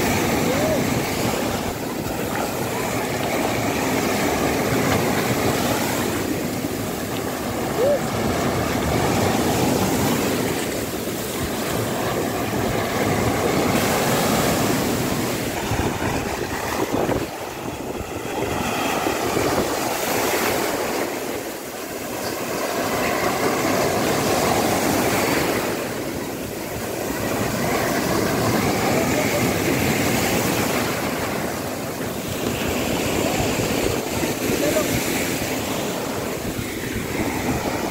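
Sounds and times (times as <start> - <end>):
small waves washing over sand: 0.0 - 37.9.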